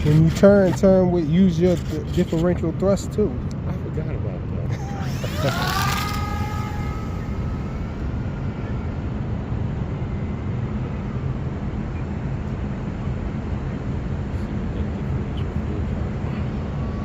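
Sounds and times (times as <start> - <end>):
electric motors whining faintly: 0.0 - 17.0.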